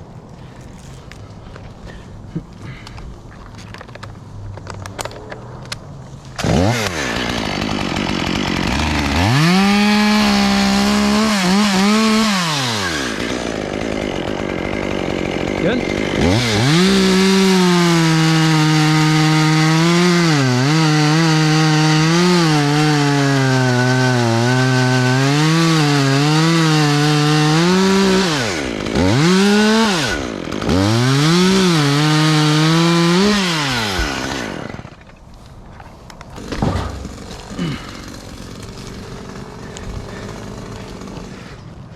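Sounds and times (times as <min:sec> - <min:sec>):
chainsaw cutting through wood: 0:06.3 - 0:35.6, 0:36.3 - 0:41.9.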